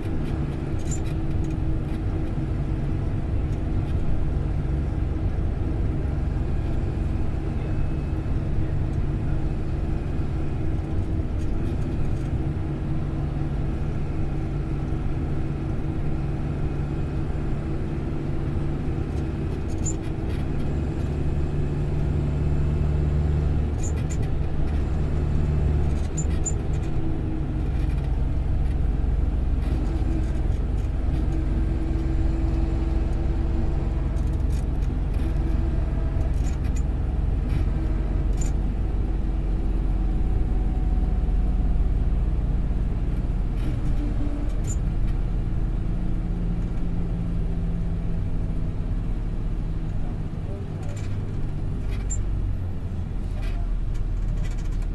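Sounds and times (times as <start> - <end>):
bus engine drone and road rumble: 0.0 - 54.9.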